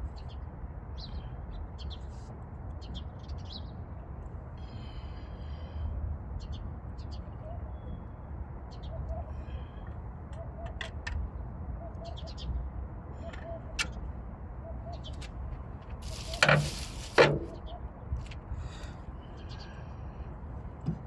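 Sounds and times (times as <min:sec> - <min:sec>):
small birds chirping: 0:00.1 - 0:05.4, 0:06.4 - 0:18.0, 0:18.6 - 0:20.3.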